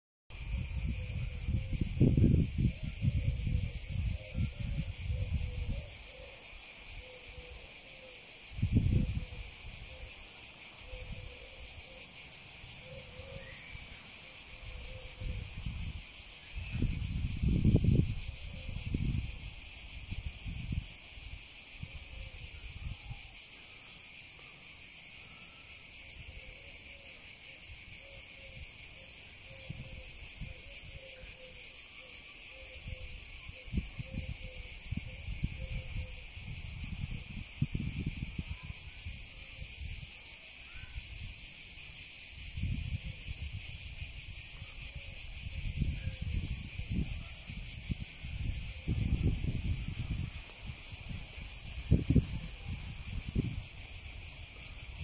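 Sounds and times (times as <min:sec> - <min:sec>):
cicadas buzzing: 0:00.3 - 0:55.0.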